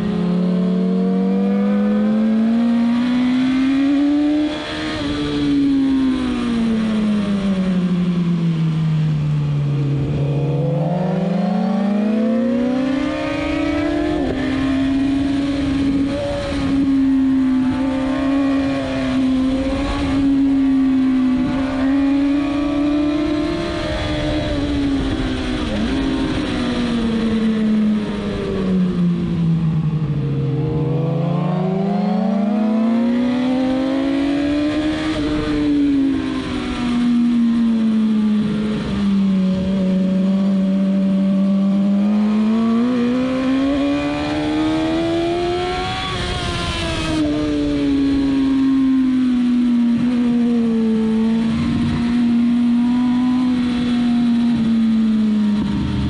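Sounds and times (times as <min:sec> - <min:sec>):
motorcycle engine at speed: 0:00.0 - 0:56.0.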